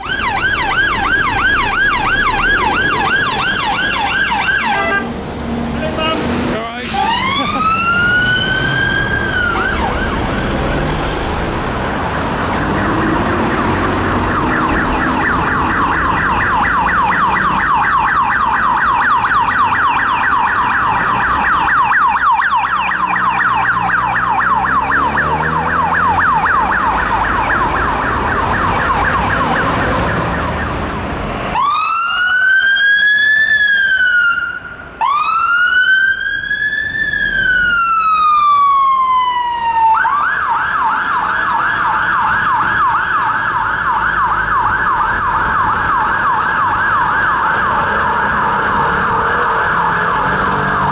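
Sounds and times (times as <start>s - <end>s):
police siren wailing and yelping: 0.0s - 5.1s, 6.8s - 11.0s, 12.3s - 50.9s
fire engine siren wailing: 0.0s - 5.2s, 5.8s - 50.9s.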